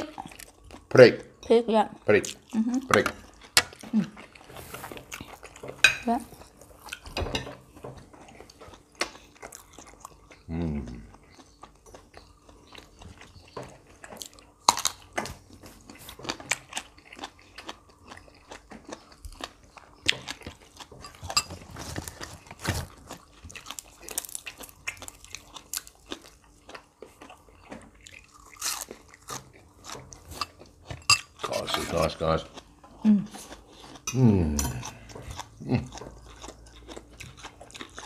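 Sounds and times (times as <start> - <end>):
crunching and chewing vegetables: 0.0 - 38.0.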